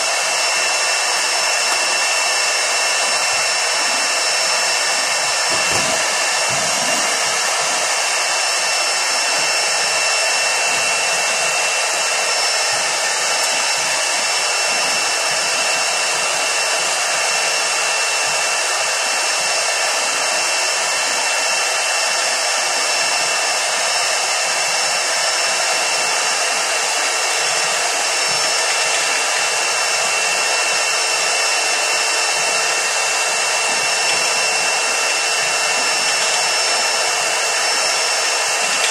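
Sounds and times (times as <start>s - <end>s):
shop vacuum running: 0.0s - 38.9s.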